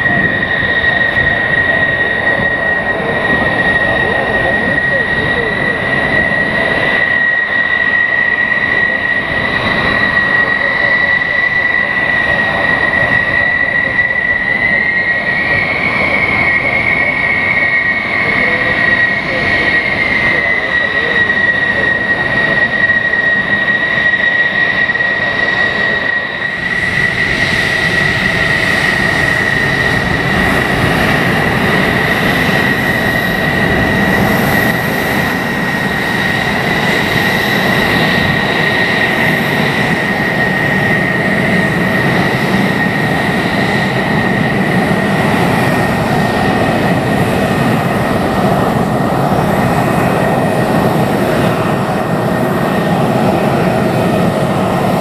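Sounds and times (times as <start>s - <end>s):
jet engine whine: 0.0s - 55.0s
rushing jet noise: 0.0s - 55.0s.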